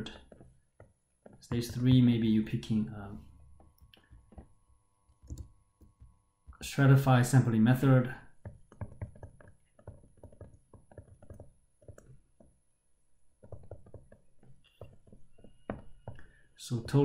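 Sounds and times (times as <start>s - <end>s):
stylus tapping on tablet: 0.1s - 2.1s, 3.4s - 6.6s, 8.3s - 17.0s.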